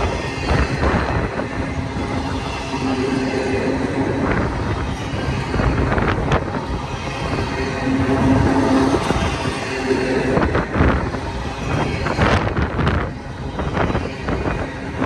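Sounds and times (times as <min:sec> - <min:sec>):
train wheels rumbling on rail: 0:00.0 - 0:15.0
wind buffeting microphone: 0:00.0 - 0:15.0.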